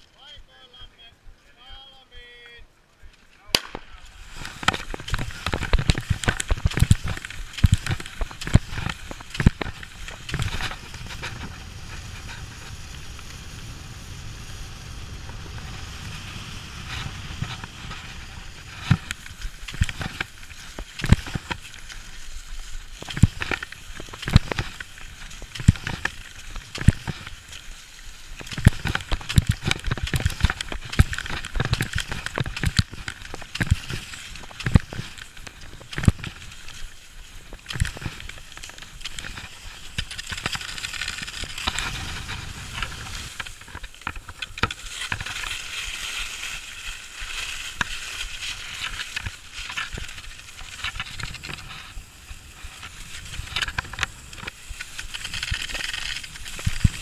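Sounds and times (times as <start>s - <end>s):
skis gliding hiss: 0.0s - 57.0s
skis scraping on snow: 0.0s - 57.0s
ski poles clicking and crunching: 1.6s - 14.1s, 15.2s - 57.0s.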